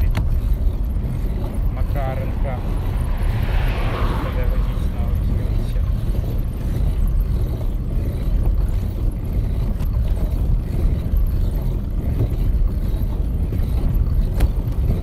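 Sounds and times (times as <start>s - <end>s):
bicycle tyres rolling on asphalt: 0.0s - 15.0s
wind buffeting microphone: 0.0s - 15.0s.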